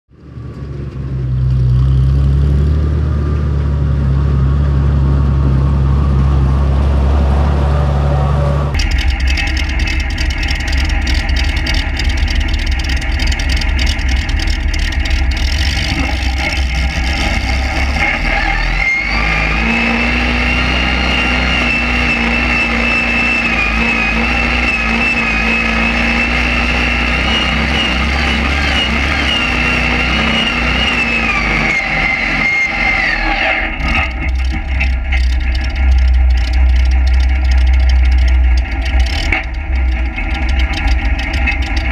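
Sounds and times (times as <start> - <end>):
tractor engine running hard: 0.1 - 41.9
high whine: 4.0 - 41.9.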